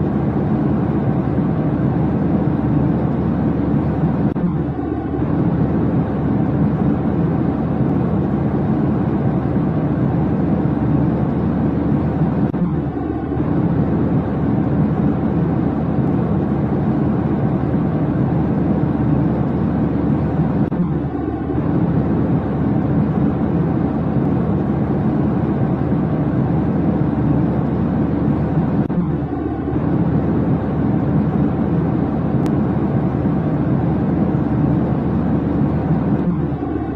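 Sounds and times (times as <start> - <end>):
low drone of engines: 0.0 - 36.9.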